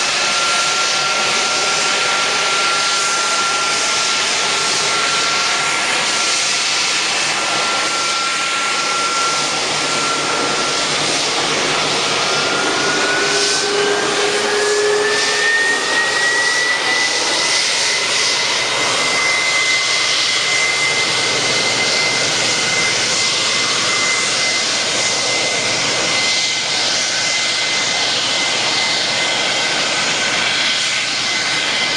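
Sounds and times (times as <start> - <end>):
jet engines rumbling: 0.0 - 31.9
thin rising jet whine: 0.0 - 31.9.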